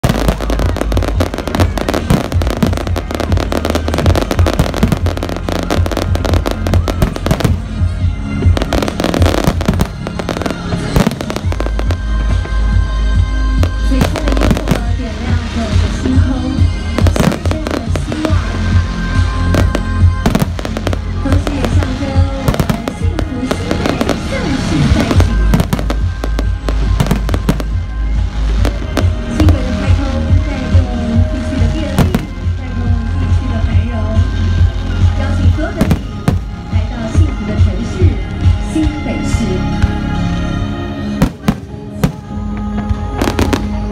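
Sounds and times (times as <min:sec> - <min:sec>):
fireworks booming and crackling: 0:00.0 - 0:34.0, 0:34.6 - 0:38.6, 0:41.2 - 0:43.9
music playing: 0:00.0 - 0:43.9.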